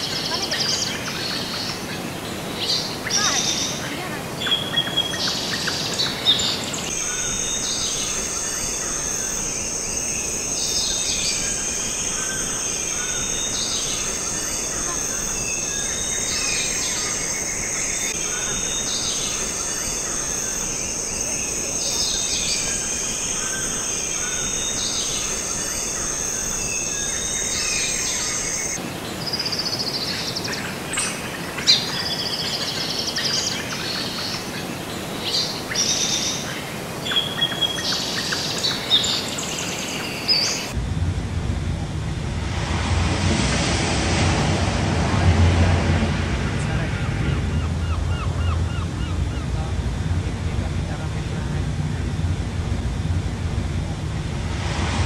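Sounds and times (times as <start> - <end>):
birds chirping: 0.0 - 40.8, 46.6 - 50.2.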